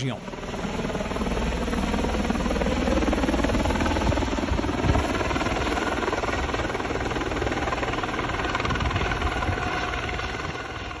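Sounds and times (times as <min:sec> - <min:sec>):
helicopter rotor beating: 0:00.0 - 0:11.0.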